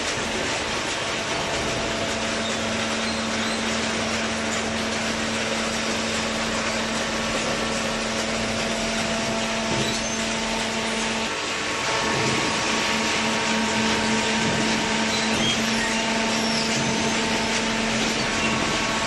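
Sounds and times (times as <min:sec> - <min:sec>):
hydraulic power unit running: 0:00.0 - 0:19.0.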